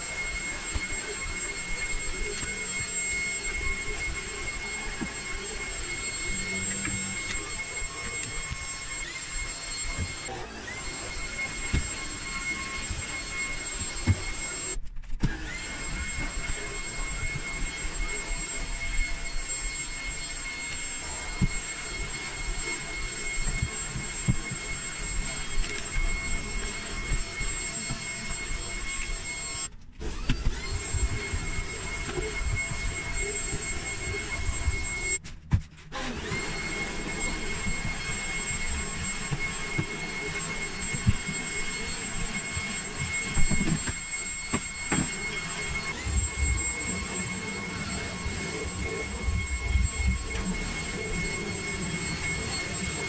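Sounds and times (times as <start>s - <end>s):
vacuum cleaner whine: 0.0s - 53.0s.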